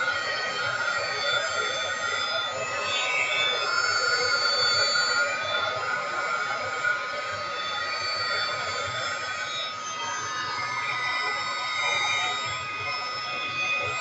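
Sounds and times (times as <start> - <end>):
heat tool fan whining: 0.0 - 14.0.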